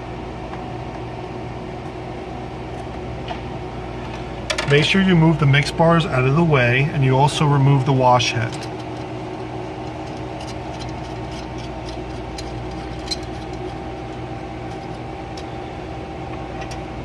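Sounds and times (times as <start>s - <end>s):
analyzer machine humming: 0.9s - 17.0s.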